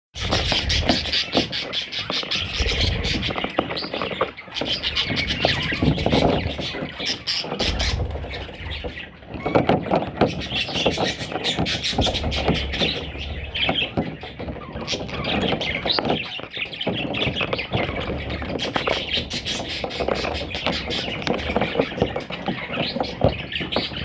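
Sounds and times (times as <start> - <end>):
budgerigars chattering and squealing: 0.2 - 24.0.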